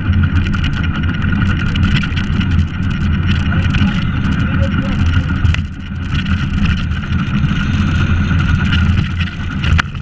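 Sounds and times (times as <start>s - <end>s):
cart rattling: 0.0s - 10.0s
wheels rumbling on asphalt: 0.0s - 10.0s.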